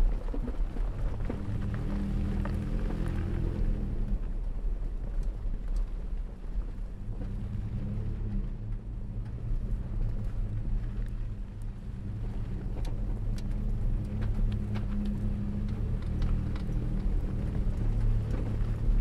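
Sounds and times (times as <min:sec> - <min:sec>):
gravel ticks: 0:00.0 - 0:19.0
truck engine rumble: 0:00.0 - 0:19.0
tyre and road noise: 0:00.0 - 0:19.0.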